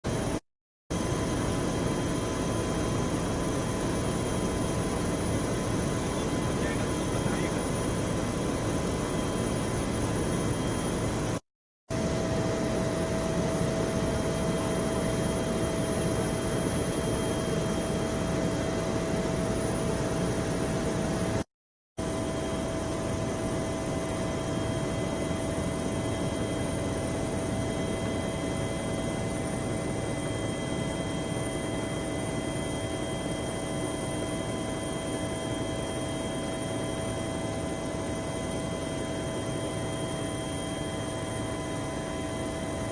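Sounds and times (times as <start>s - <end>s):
helicopter engine and rotor: 0.0s - 42.9s.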